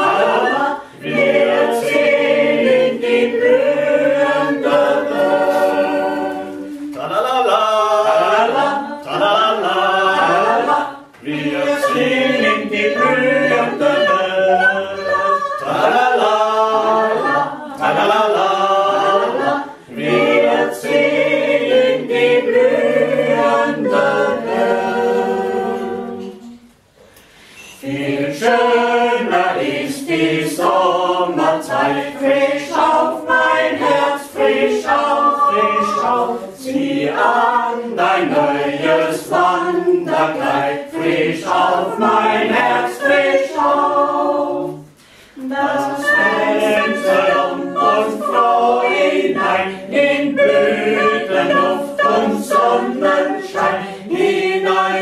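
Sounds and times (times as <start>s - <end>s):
group singing a cappella: 0.0s - 55.0s.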